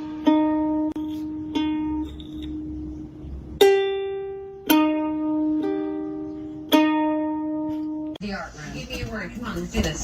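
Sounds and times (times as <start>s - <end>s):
plucked notes music: 0.0s - 8.2s.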